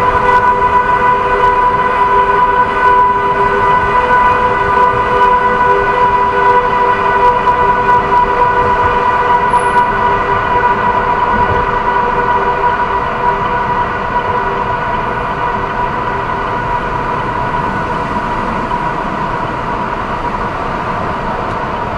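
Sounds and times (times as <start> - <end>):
road noise: 0.0 - 21.9
vehicle horn sounding continuously: 0.0 - 21.9.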